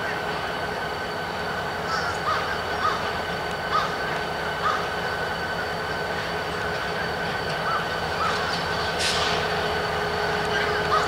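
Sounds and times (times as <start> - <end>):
diesel locomotive rumble: 0.0 - 11.0
high engine whine: 0.0 - 11.0.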